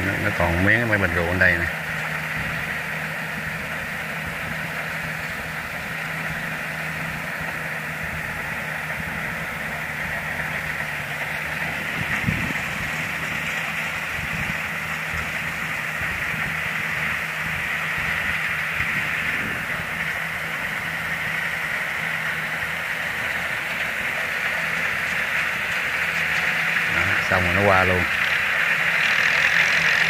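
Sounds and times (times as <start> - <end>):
combine harvester diesel engine: 0.0 - 30.0.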